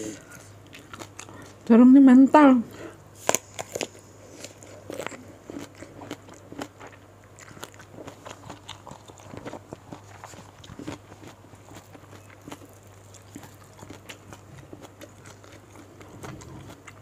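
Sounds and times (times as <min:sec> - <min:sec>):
person biting and chewing food: 0:00.4 - 0:01.6, 0:03.2 - 0:17.0.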